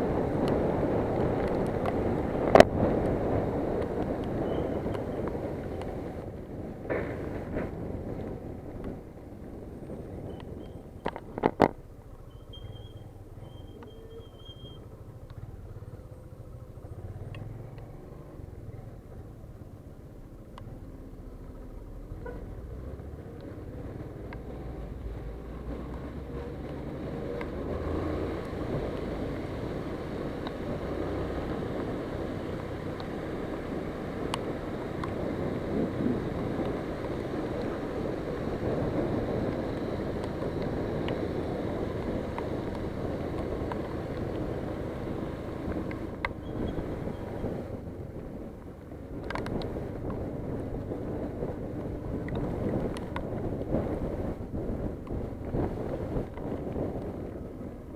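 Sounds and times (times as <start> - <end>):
road and wind noise: 0.0 - 57.9
vehicle rumble: 0.0 - 57.9.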